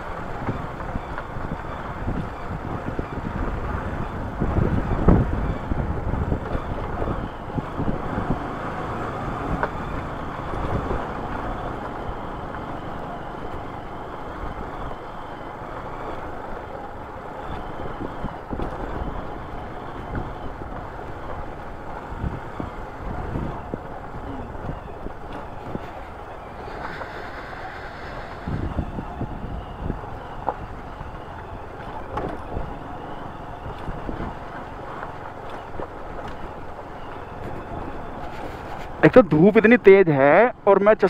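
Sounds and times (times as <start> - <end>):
motorcycle engine running: 0.0 - 40.9
tyres rumbling on gravel: 0.0 - 41.0.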